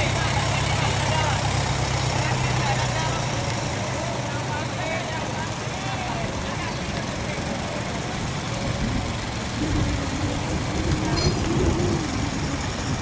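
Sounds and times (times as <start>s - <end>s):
boat engines running: 0.0s - 13.0s
indistinct voices: 0.0s - 13.0s.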